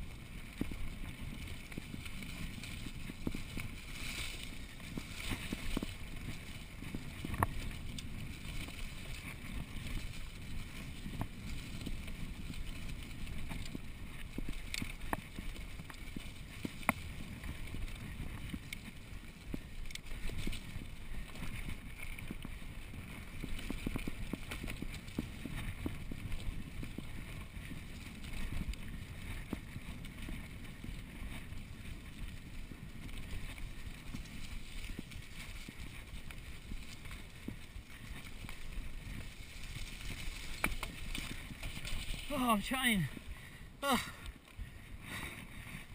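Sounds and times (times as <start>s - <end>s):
bike rattling and knocking: 0.0s - 45.9s
bike tyres rumbling on dirt: 0.0s - 45.9s.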